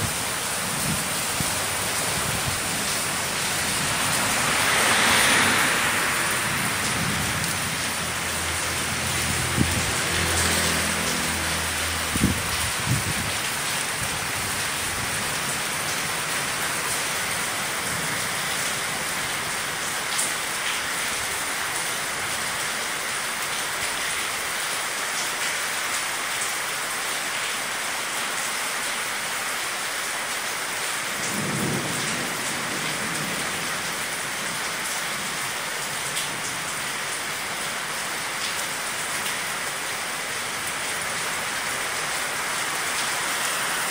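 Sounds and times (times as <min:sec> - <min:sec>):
rain hissing on pavement: 0:00.0 - 0:43.9.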